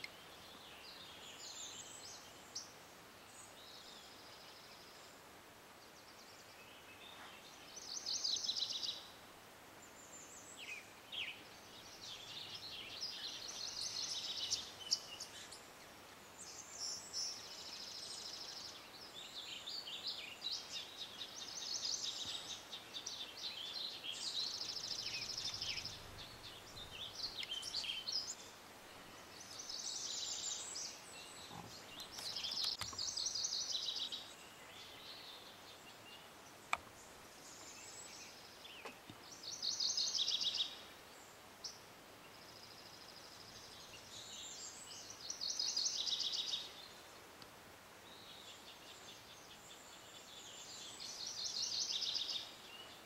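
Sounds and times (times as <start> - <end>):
faint outdoor hiss: 0.0 - 53.0
songbirds singing: 0.0 - 53.0.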